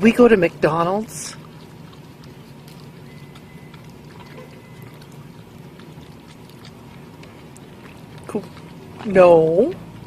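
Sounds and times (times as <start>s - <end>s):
low car interior hum: 0.0s - 10.0s
dog licking wet smacks: 0.7s - 10.0s.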